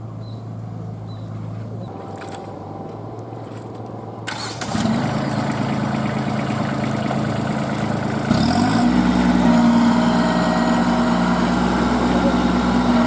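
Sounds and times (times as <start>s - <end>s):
tractor diesel engine straining: 1.5s - 13.0s.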